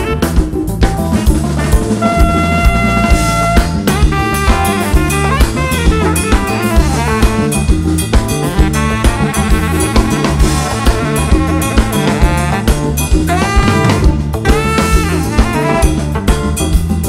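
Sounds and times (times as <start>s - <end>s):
saxophone playing: 0.0s - 16.7s
drum kit groove: 0.0s - 17.0s
electric bass guitar: 0.0s - 17.0s.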